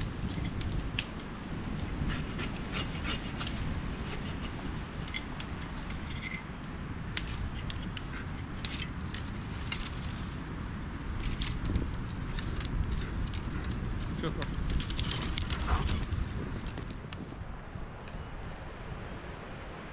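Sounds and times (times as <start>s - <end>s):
dry twigs snapping: 0.0s - 18.7s
wind buffeting microphone: 0.0s - 19.9s.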